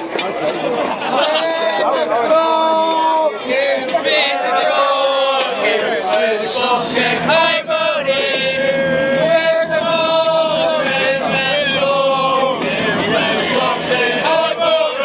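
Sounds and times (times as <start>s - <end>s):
crowd of men singing a chant: 1.0s - 15.0s.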